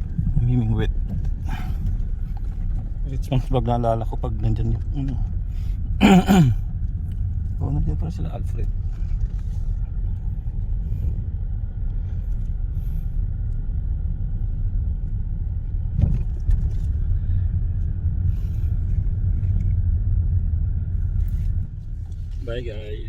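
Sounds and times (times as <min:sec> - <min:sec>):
car interior engine and road noise: 0:00.0 - 0:23.0.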